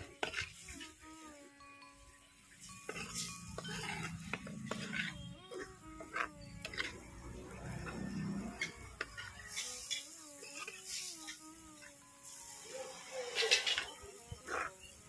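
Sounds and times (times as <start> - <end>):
metal spoon scraping clay pot: 0.0 - 1.1, 2.6 - 12.0, 12.7 - 15.0.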